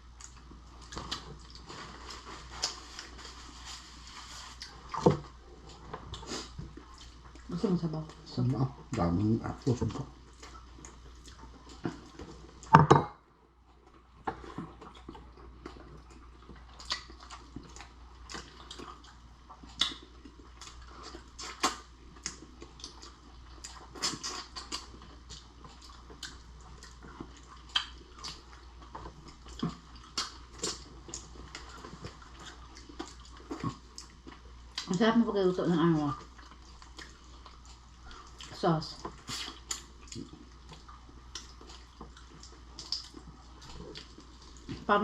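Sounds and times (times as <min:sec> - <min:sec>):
wet chewing and smacking: 0:00.0 - 0:12.8, 0:13.6 - 0:35.1, 0:35.8 - 0:45.0.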